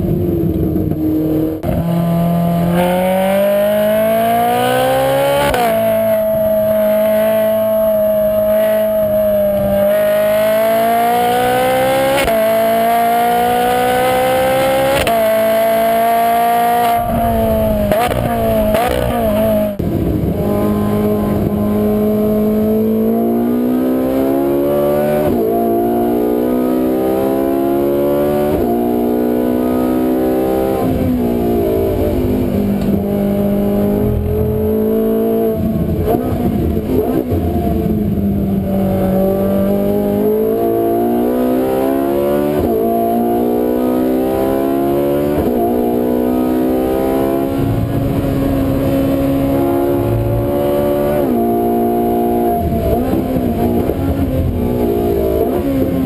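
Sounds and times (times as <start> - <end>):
sports car engine revving: 0.0 - 56.0.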